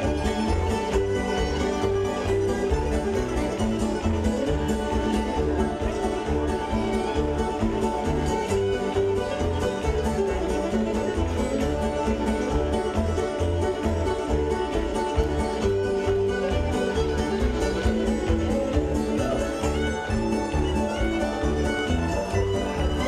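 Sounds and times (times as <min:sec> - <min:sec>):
stringed instruments playing: 0:00.0 - 0:23.0.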